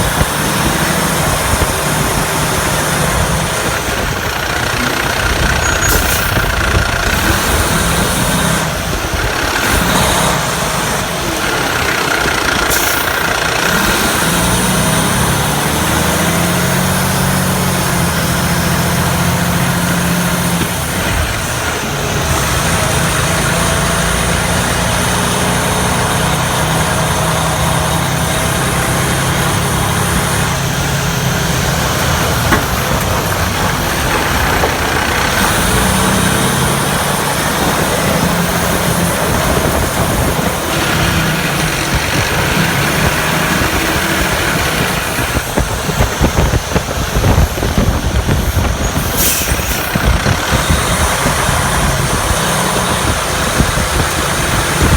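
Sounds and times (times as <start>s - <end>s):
truck engine running: 0.0s - 54.9s.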